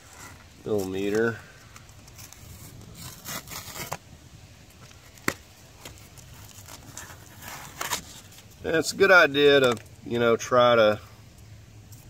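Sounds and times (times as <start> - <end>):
hands rustling wiring and plastic: 0.0 - 10.0.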